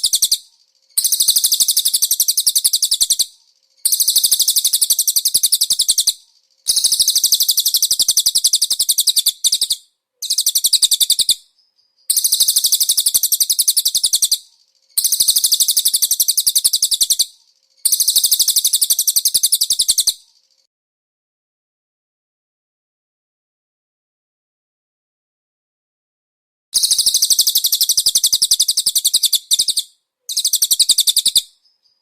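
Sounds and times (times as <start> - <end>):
songbird high-pitched chatter: 0.0 - 20.7, 26.8 - 32.0.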